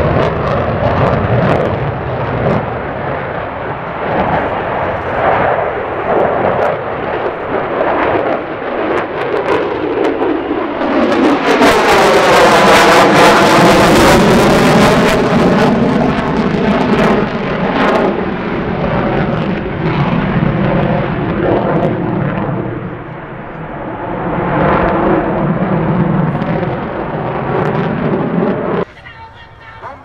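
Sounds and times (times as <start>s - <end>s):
jet engine afterburner roar: 0.0s - 30.0s.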